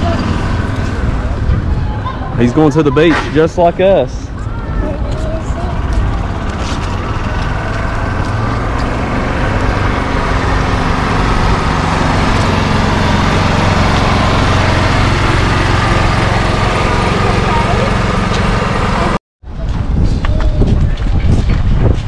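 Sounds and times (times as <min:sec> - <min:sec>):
vehicle engine running: 0:00.0 - 0:02.9, 0:04.2 - 0:22.0.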